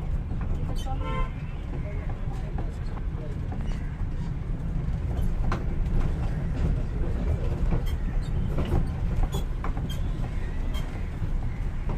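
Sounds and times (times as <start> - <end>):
train clicks and clacks: 0.0 - 11.9
train rumbling: 0.0 - 11.9.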